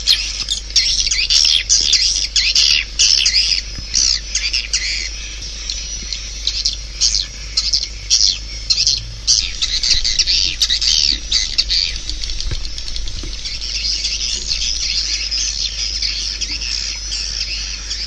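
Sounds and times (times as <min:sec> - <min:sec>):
swiftlets twittering: 0:00.0 - 0:18.0.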